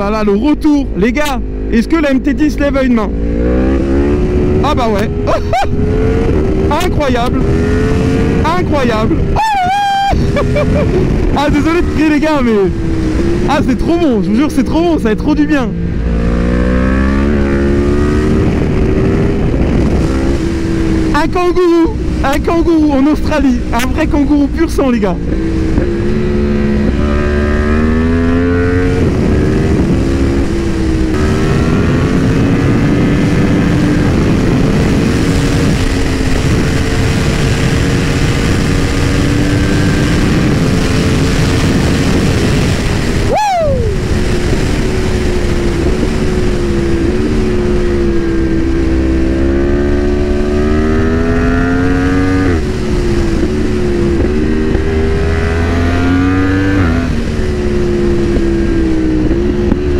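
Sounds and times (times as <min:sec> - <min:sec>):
motorcycle engine revving: 0:00.0 - 0:59.9
wind rush: 0:00.0 - 0:59.9.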